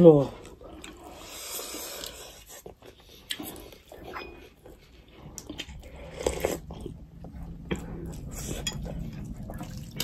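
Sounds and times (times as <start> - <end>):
people chewing: 0.3 - 10.0.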